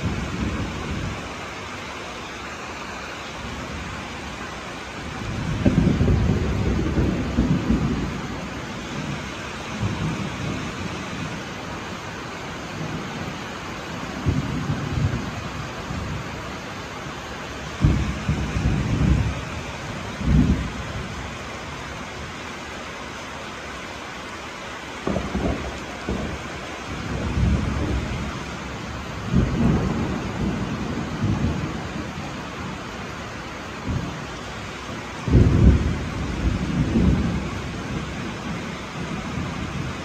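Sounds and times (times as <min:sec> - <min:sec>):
heavy rain falling: 0:00.0 - 0:40.0
thunder rumbling: 0:00.0 - 0:40.0.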